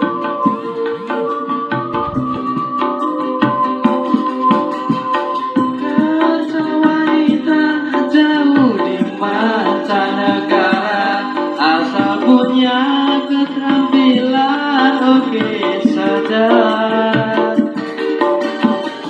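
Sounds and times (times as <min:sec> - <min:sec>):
song with singing through speaker: 0:00.0 - 0:19.0.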